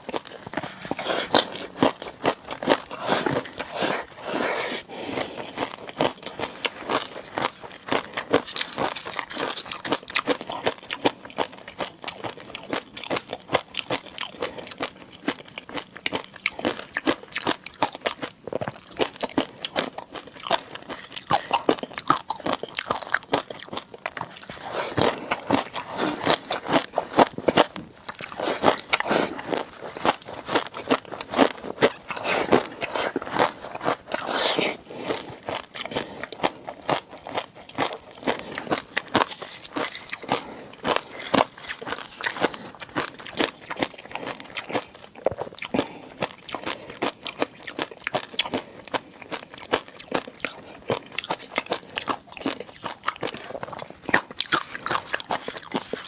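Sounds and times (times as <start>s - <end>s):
person chewing seafood: 0.0s - 56.0s.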